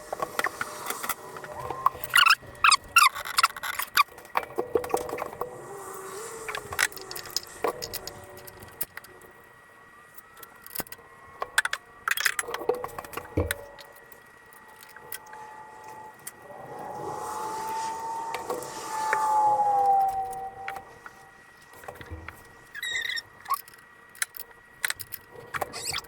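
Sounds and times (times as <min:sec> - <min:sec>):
wavering tone: 0:00.0 - 0:23.6.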